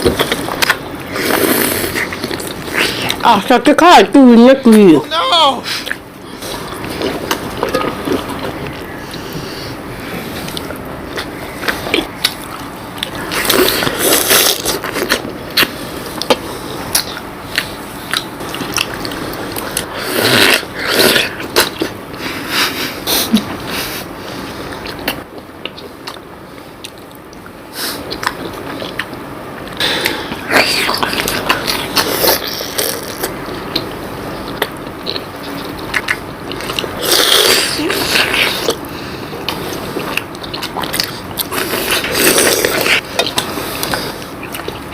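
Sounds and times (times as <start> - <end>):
wet chewing and slurping: 0.0 - 3.2, 5.7 - 44.9.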